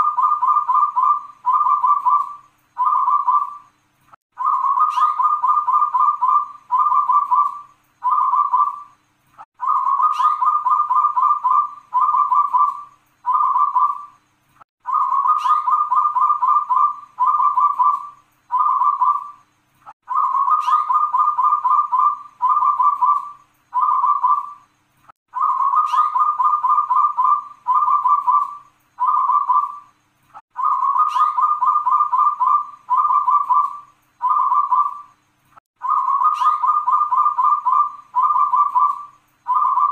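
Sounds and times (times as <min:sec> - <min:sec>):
dove cooing: 0:00.0 - 0:03.7, 0:04.4 - 0:08.9, 0:09.6 - 0:14.1, 0:14.8 - 0:19.4, 0:20.0 - 0:24.6, 0:25.3 - 0:29.9, 0:30.5 - 0:35.1, 0:35.8 - 0:39.9.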